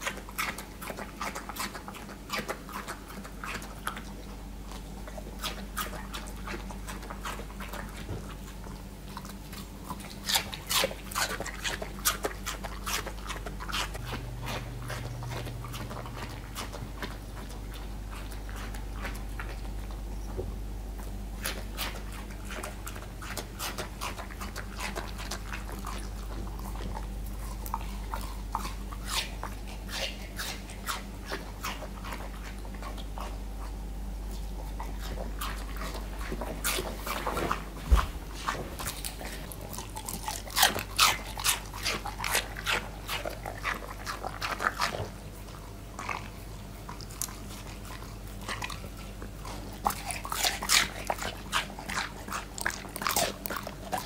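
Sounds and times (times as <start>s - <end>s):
dog chewing: 0.0s - 54.0s.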